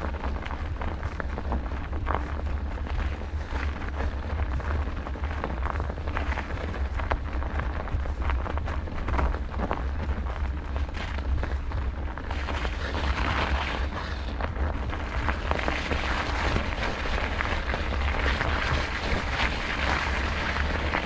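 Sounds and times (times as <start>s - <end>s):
bicycle rolling noise: 0.0s - 21.0s
wind rumbling on microphone: 0.0s - 21.0s.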